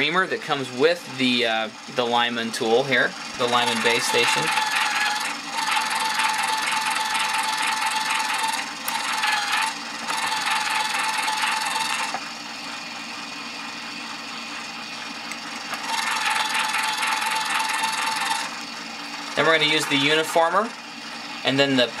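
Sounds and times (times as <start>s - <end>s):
cutter grinding brass case: 0.0s - 12.9s, 14.6s - 22.0s
electric motor running: 0.0s - 22.0s.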